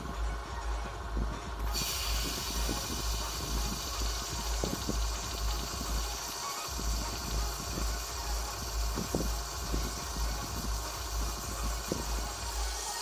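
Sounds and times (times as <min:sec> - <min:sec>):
cooling fan pulsing hum: 0:00.0 - 0:13.0
water hissing in pot: 0:01.6 - 0:13.0.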